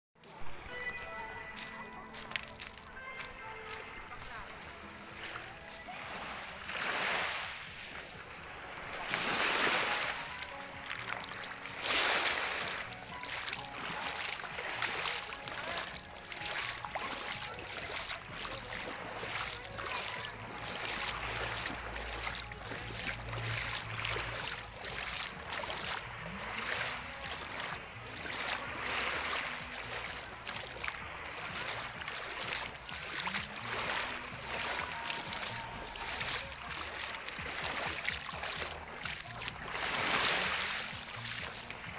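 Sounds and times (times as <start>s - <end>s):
small waves lapping shore: 0.2s - 41.9s.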